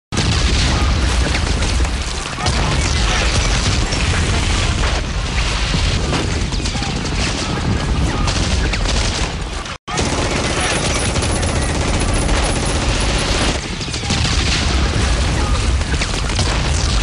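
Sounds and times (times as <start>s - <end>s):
rapid gunfire: 0.2s - 17.0s.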